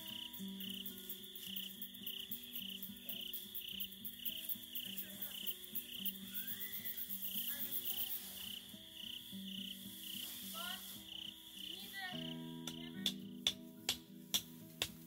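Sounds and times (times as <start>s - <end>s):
high chirping pulse: 0.0s - 12.9s.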